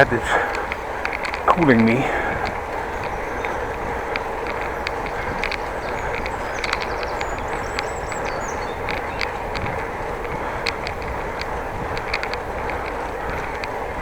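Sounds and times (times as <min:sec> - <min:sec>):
faint ticks: 0:00.0 - 0:14.0
wind and road noise from bicycle: 0:00.0 - 0:14.0.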